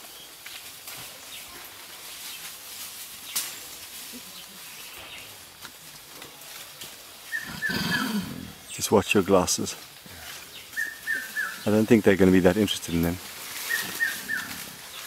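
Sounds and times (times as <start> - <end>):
faint rustling in undergrowth: 0.0 - 15.0.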